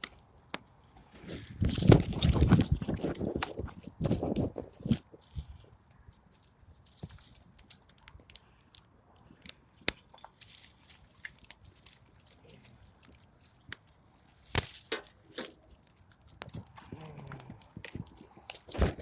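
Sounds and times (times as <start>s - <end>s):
dry twigs snapping: 0.0s - 19.0s.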